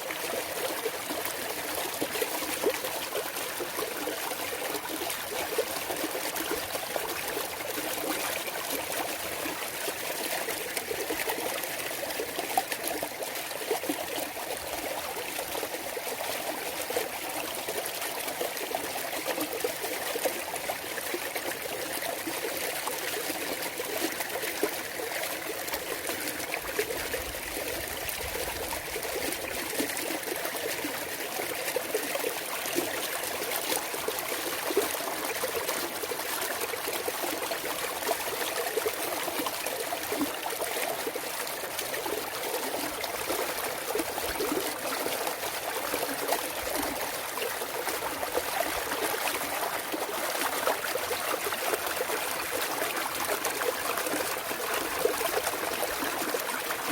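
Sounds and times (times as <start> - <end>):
stream babbling over rocks: 0.0 - 56.9.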